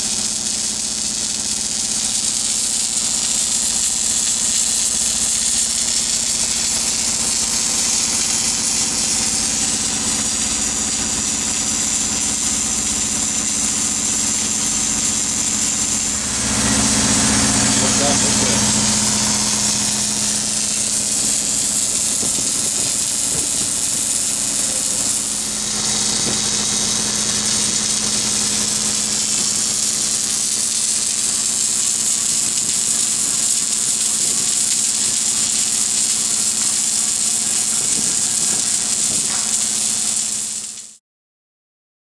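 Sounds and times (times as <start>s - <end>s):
welding machine humming and hissing: 0.0s - 41.0s.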